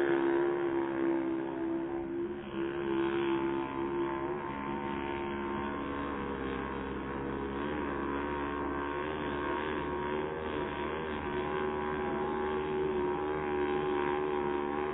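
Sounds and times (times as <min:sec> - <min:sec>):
model boat motor drone: 0:00.0 - 0:14.9.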